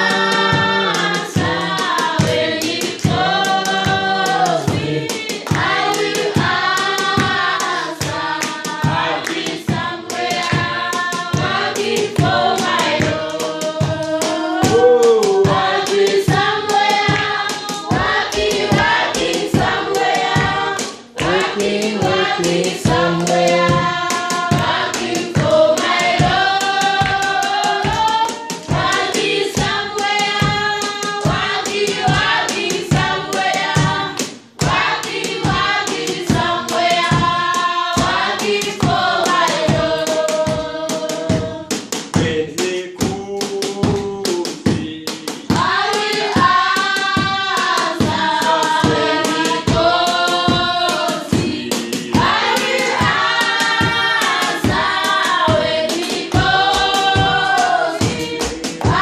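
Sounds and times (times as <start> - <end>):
group singing a worship song: 0.0 - 59.0
rhythmic hand clapping: 0.0 - 59.0.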